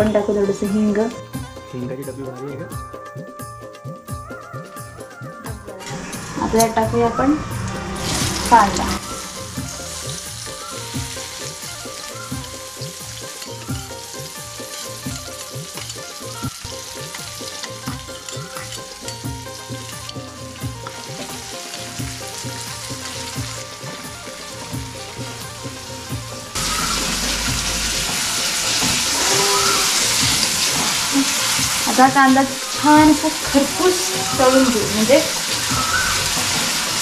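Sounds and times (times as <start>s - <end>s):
onion sizzling in oil: 5.8s - 37.0s.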